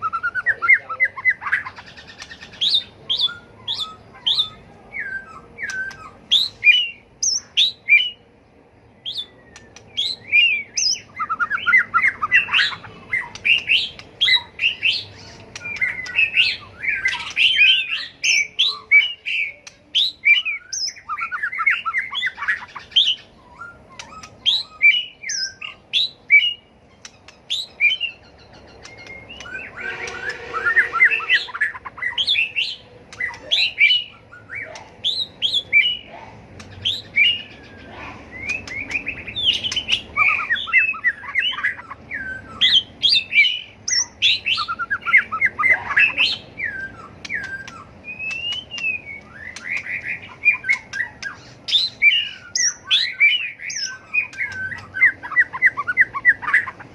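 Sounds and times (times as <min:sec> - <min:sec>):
bird singing whistled song: 0:00.0 - 0:08.3, 0:08.9 - 0:56.9.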